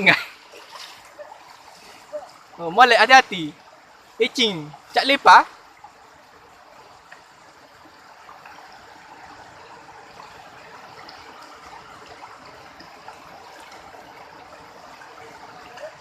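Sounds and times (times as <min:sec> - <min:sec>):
river water rushing: 0:00.0 - 0:16.0
small water splashes: 0:00.0 - 0:16.0.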